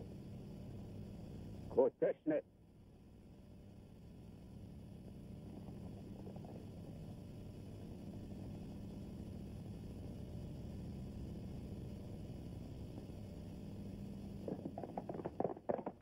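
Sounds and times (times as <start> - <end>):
old film soundtrack hum and rumble: 0.0 - 16.0.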